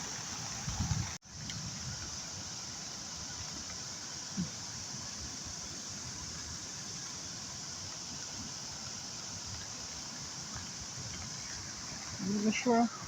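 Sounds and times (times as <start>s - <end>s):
floodwater running: 0.0s - 13.0s.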